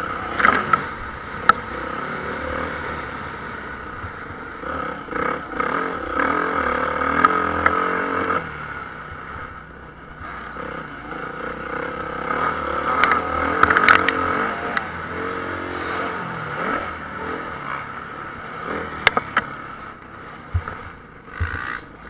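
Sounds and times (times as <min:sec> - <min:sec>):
motorbike passing loudly: 0:00.0 - 0:21.9
motocross engines revving: 0:00.0 - 0:22.0.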